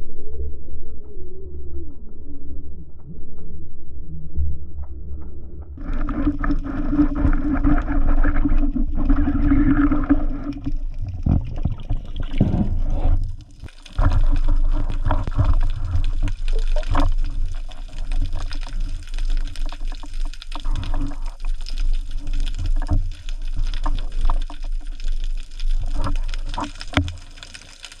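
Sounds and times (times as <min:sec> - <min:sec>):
water sloshing and bubbling underwater: 0:00.0 - 0:28.0.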